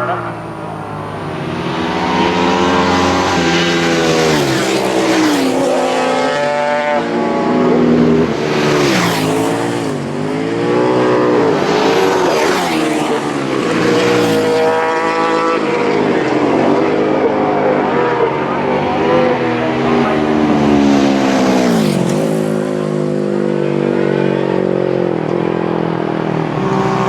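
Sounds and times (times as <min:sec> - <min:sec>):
racing motorcycles passing: 0:00.0 - 0:27.0.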